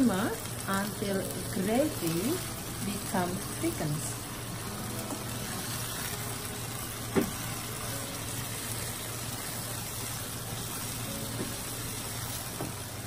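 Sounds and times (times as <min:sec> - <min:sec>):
gravy sizzling in a frying pan: 0:00.0 - 0:13.0.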